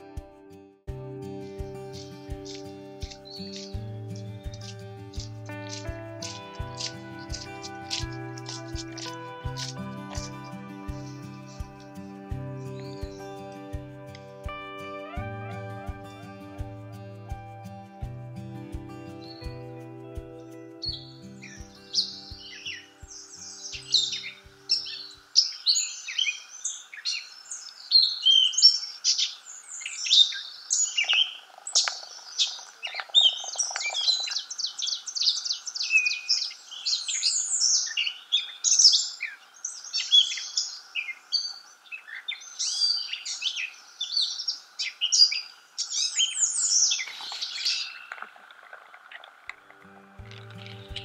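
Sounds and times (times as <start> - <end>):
songbirds chorus: 1.3 - 51.0.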